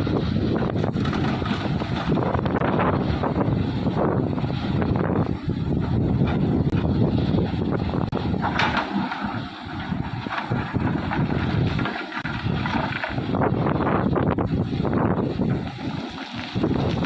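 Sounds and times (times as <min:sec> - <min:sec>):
excavator diesel engine rumbling: 0:00.0 - 0:17.0
wind buffeting microphone: 0:00.0 - 0:17.0.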